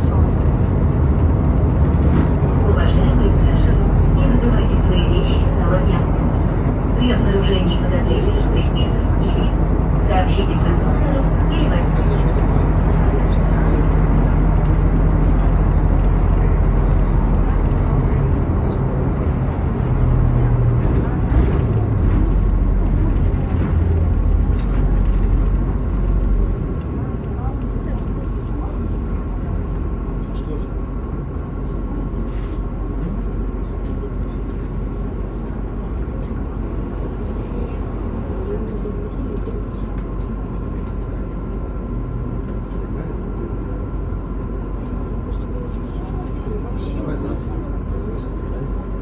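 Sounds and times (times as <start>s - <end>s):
bus diesel engine: 0.0s - 49.0s
road noise: 0.0s - 49.0s.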